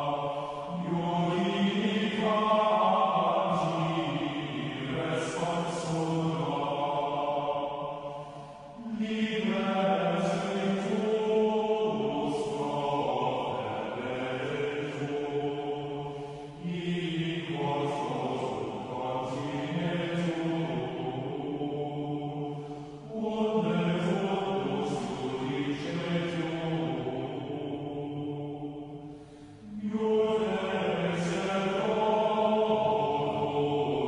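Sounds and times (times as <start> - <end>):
voices chanting long notes: 0.0 - 34.0.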